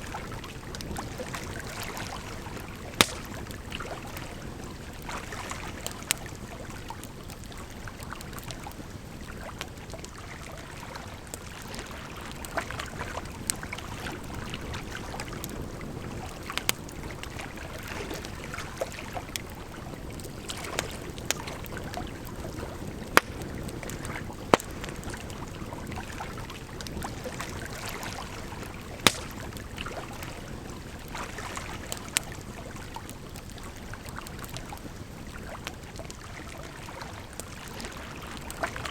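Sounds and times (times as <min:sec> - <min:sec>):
campfire crackling and popping: 0:00.1 - 0:38.9.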